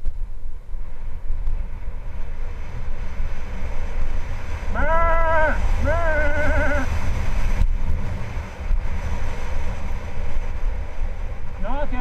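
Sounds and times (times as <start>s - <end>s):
bike tyres rolling on gravel: 0.0s - 12.0s
wind buffeting microphone: 0.0s - 12.0s.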